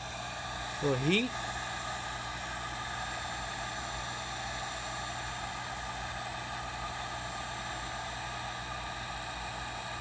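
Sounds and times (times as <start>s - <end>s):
heat gun fan blowing: 0.0s - 10.0s.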